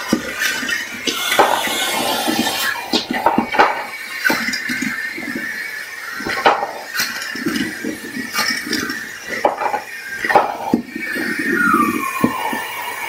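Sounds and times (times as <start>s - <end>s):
vacuum cleaner whining: 0.0s - 13.0s.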